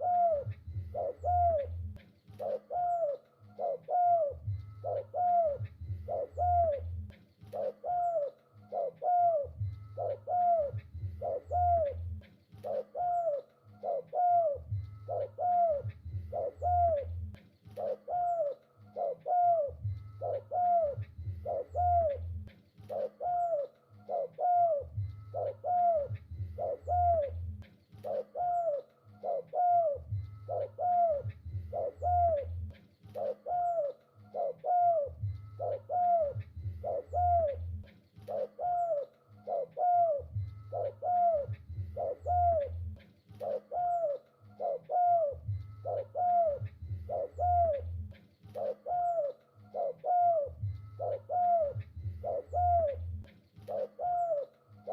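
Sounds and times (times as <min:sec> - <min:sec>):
low hum: 0:00.0 - 0:13.0, 0:13.7 - 0:18.0, 0:18.8 - 0:23.1, 0:24.0 - 0:28.4, 0:29.0 - 0:38.4, 0:39.2 - 0:53.9
dove cooing: 0:00.0 - 0:54.9.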